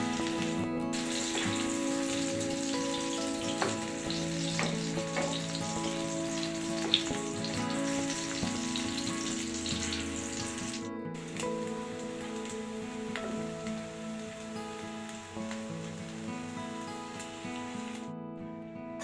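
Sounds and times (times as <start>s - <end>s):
food sizzling in a frying pan: 0.0s - 18.1s
background music: 0.0s - 19.0s.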